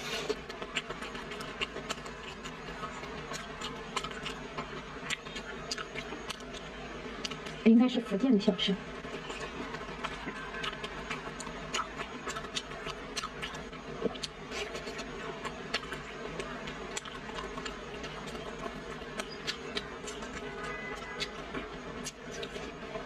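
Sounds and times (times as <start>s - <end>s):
chewing crispy food: 0.0s - 7.7s, 8.9s - 23.0s
steady low hum: 0.0s - 23.0s.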